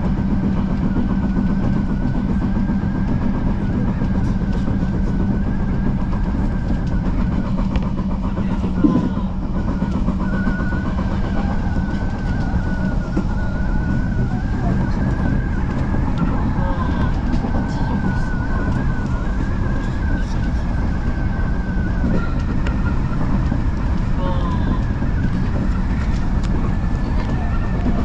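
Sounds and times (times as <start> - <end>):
high wavering motor whine: 0.0 - 28.0
train wheels rumbling on track: 0.0 - 28.0.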